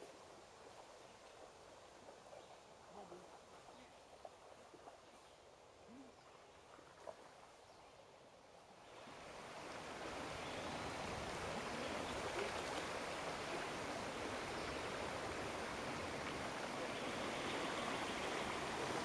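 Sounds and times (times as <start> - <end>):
creek water rushing: 0.0 - 19.0.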